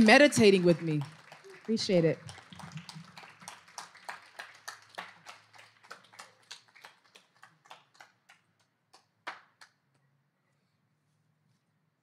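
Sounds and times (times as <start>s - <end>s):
audience clapping: 0.0s - 9.8s.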